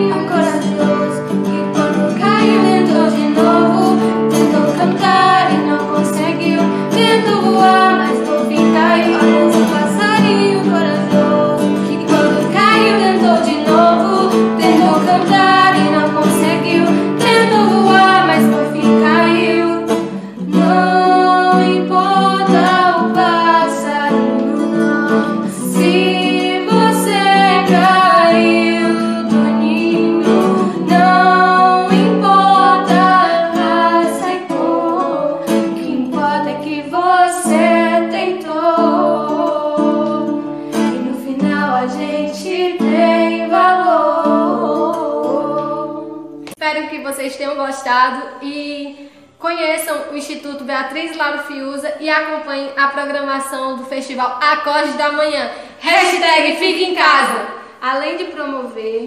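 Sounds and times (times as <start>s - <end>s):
women singing together: 0.0s - 47.0s, 54.8s - 57.7s
acoustic guitar: 0.0s - 59.0s.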